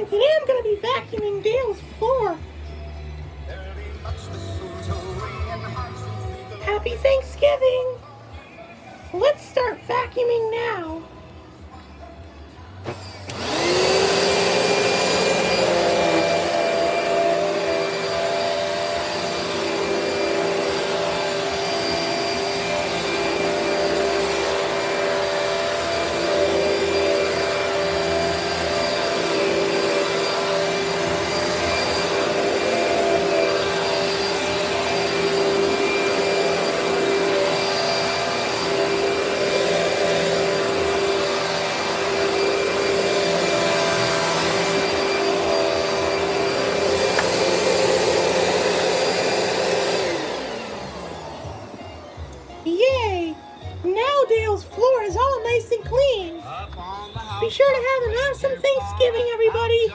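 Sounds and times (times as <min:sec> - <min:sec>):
vacuum cleaner running: 0:00.0 - 0:02.6, 0:12.8 - 0:59.9.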